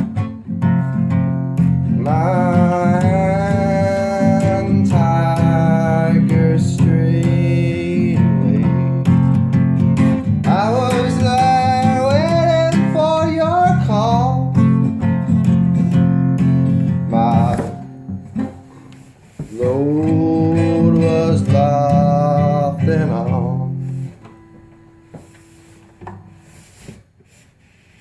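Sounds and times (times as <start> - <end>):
strummed acoustic guitar: 0.0 - 26.9
sliding melody line: 0.6 - 9.3, 10.0 - 26.8.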